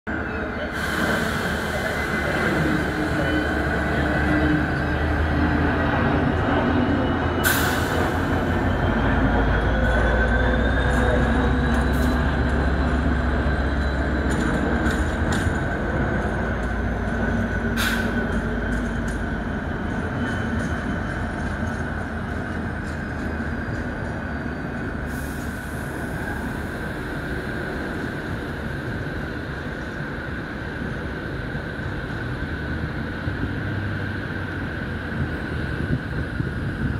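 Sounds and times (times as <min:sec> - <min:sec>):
diesel locomotive engine rumbling: 0:00.1 - 0:36.9.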